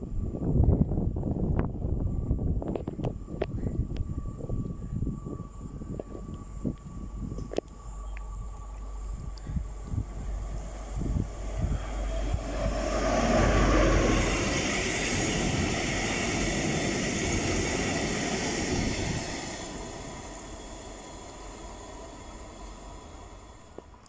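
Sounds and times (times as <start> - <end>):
diesel locomotive engine drone: 0.0 - 24.0
train wagons rumbling over rails: 0.9 - 24.0.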